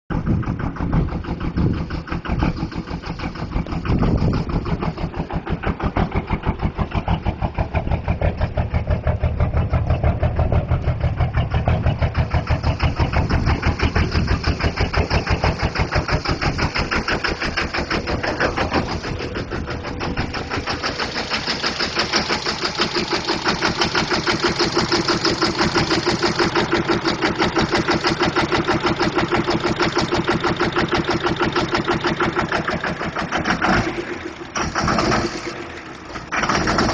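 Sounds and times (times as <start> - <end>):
diesel truck engine loping: 0.1 - 36.9.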